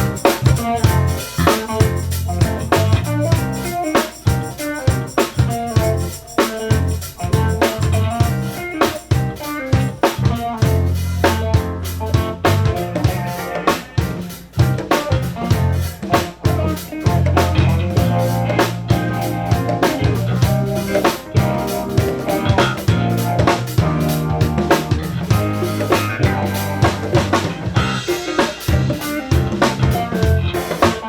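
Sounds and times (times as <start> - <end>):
bass guitar: 0.0 - 31.0
drum kit beat: 0.0 - 31.0
electric guitar: 0.0 - 31.0.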